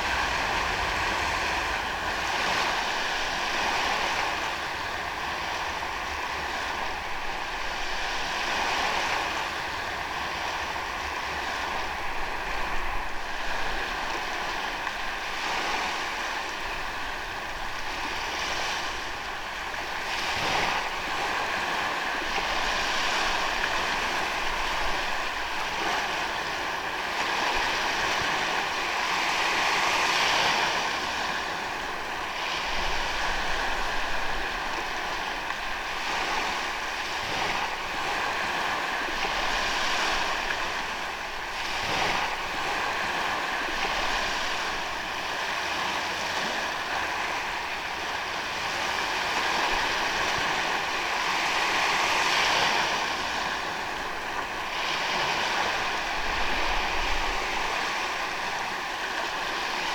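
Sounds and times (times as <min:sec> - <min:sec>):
ocean waves washing onto beach: 0:00.0 - 0:59.9.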